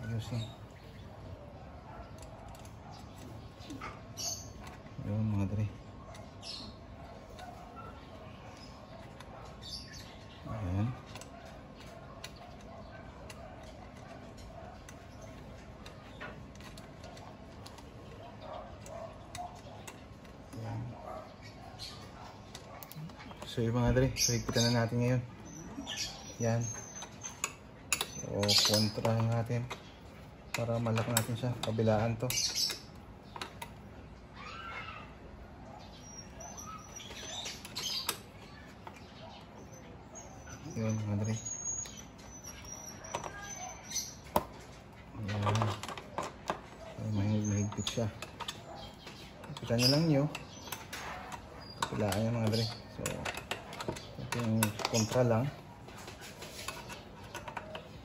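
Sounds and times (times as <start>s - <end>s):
faint birds chirping: 0.0s - 58.0s
faint steady background noise: 0.0s - 58.0s.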